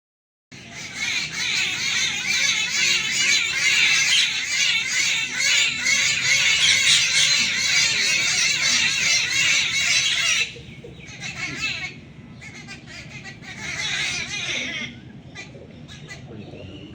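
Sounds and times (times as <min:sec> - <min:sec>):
flock of birds chirping and squawking: 0:00.6 - 0:16.9.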